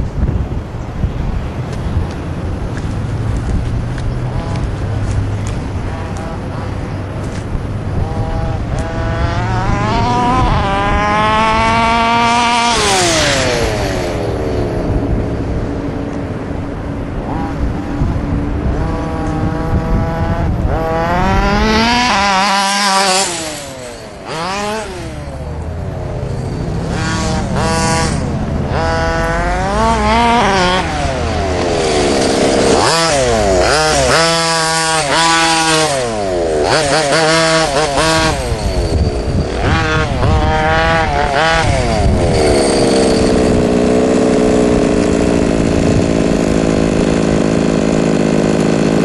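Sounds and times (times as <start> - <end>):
car engine revving: 2.3 - 49.0.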